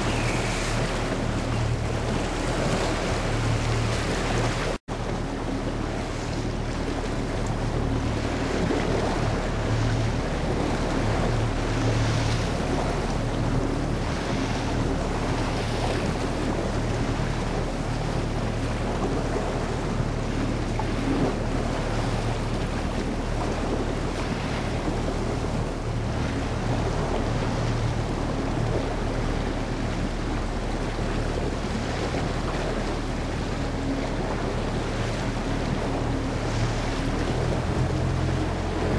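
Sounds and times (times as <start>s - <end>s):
boat motor running: 0.0s - 38.9s
water rushing past hull: 0.0s - 38.9s
wind buffeting microphone: 0.0s - 38.9s.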